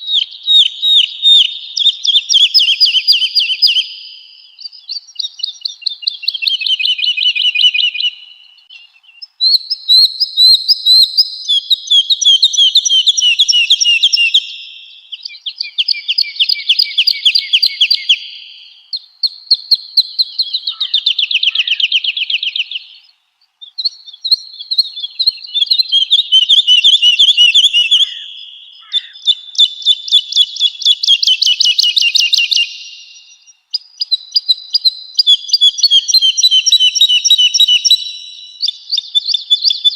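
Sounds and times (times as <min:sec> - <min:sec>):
bird singing fast trills: 0:00.0 - 0:39.9.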